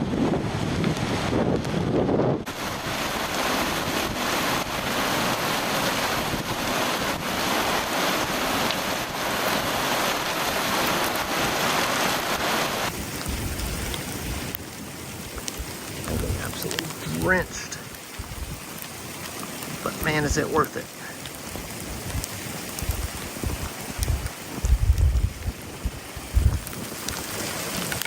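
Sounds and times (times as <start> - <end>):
heavy rain and wind on microphone: 0.0 - 28.0.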